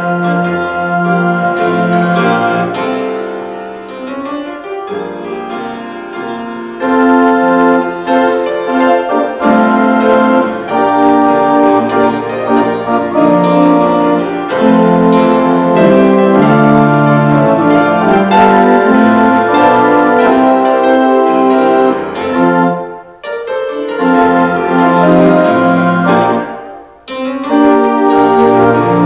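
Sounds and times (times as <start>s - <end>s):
piano music with held chords: 0.0s - 29.0s.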